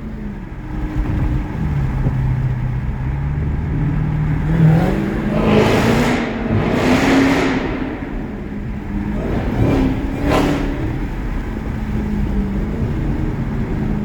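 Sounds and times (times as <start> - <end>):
car engine revving: 0.0 - 14.0
supercharger whine: 0.0 - 14.0.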